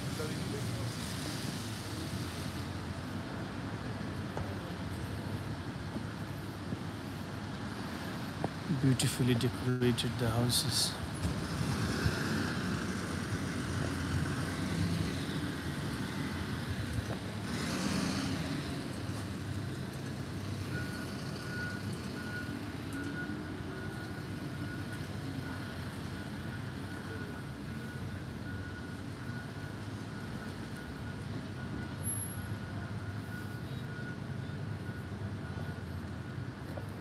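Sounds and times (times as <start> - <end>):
rumble of traffic engines: 0.0 - 37.0.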